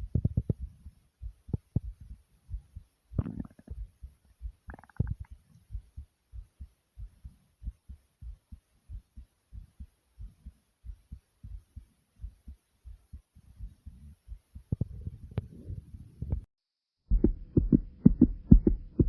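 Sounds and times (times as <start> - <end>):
heartbeat thumps: 0.0 - 16.5, 17.1 - 19.0.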